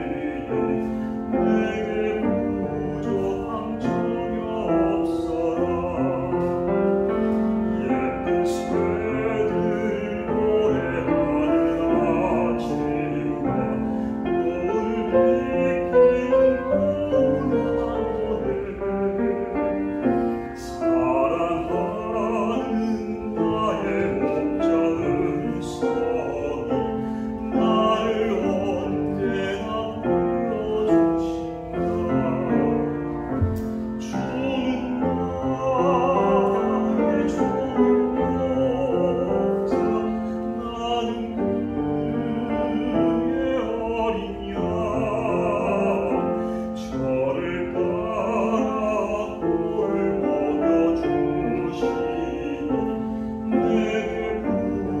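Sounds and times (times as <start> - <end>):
grand piano: 0.0 - 55.0
man singing operatic hymn: 0.0 - 55.0.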